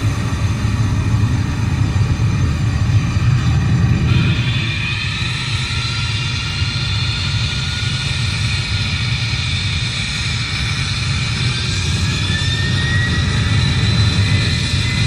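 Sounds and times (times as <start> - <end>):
jet engine whine: 0.0 - 15.0
jet engines rumbling: 0.0 - 15.0.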